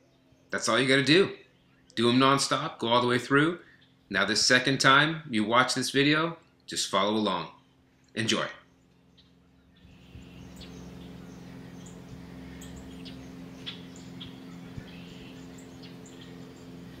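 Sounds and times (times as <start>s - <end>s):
birds chirping: 0.0s - 17.0s
low hum: 0.0s - 17.0s.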